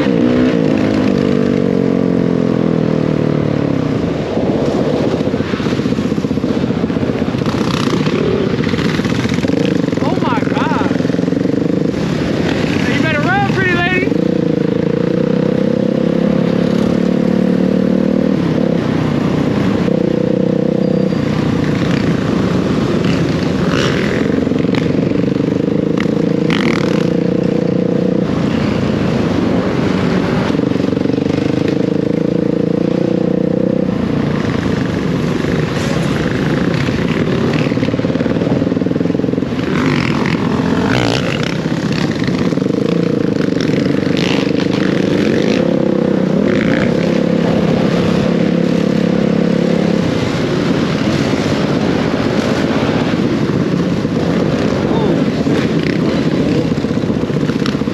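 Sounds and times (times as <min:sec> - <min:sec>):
dirt bike engine revving: 0:00.0 - 0:57.9
wind noise: 0:00.0 - 0:57.9.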